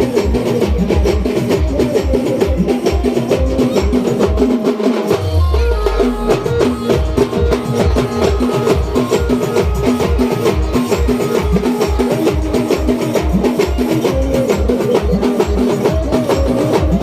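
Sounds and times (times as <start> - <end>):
deep drum beat: 0.0 - 17.0.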